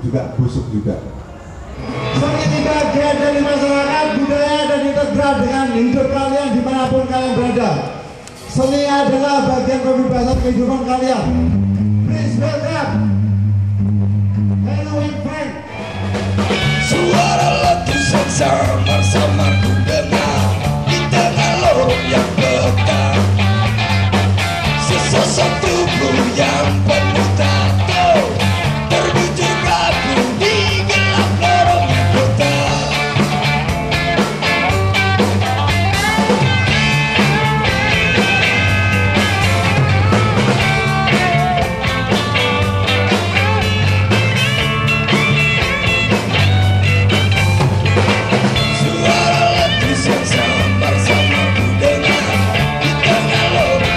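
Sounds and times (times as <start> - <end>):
repeating bass line: 1.0 - 4.8, 10.1 - 53.9
rock band playing: 1.1 - 53.9.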